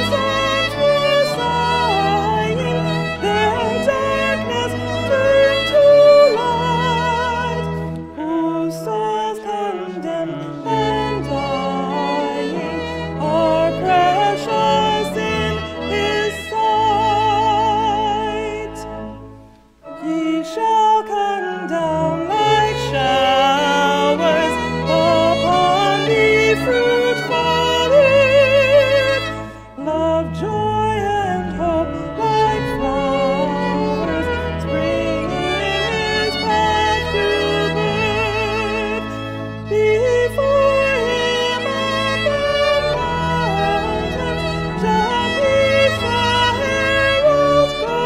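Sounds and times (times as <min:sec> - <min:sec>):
organ holding low notes: 0:00.0 - 0:48.0
solo voice singing a hymn: 0:00.0 - 0:48.0
violin: 0:00.0 - 0:48.0.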